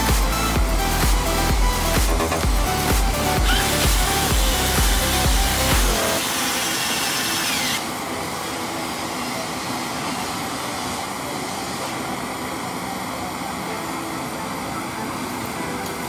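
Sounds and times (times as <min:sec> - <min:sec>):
gas torch flame hissing: 0:00.3 - 0:16.0.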